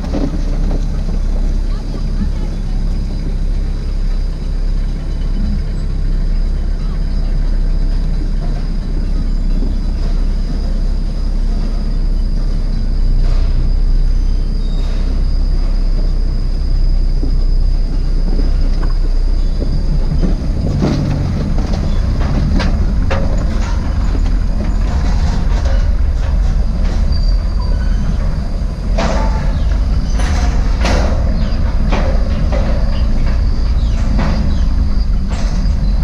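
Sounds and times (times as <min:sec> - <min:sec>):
body and suspension rattling: 0:00.0 - 0:36.0
engine and tyres rumbling: 0:00.0 - 0:36.0.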